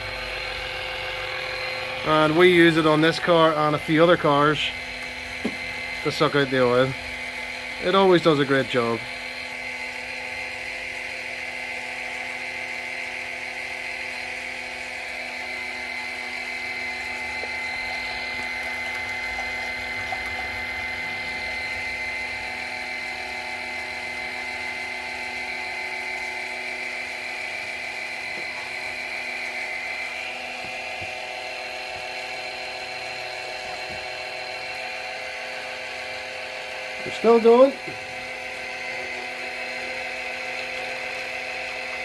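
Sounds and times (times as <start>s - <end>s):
electric pump whining: 0.0s - 42.0s.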